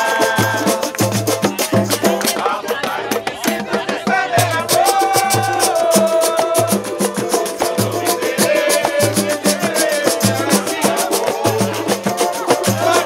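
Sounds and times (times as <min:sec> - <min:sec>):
deep hand drum beat: 0:00.0 - 0:13.0
rapid high percussion ticking: 0:00.0 - 0:13.0.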